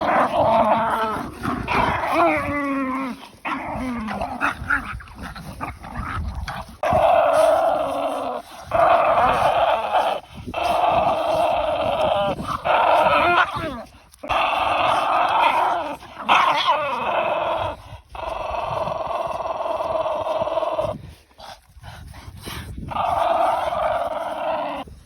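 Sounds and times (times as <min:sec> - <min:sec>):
dog growling: 0:00.0 - 0:21.2, 0:22.8 - 0:25.0.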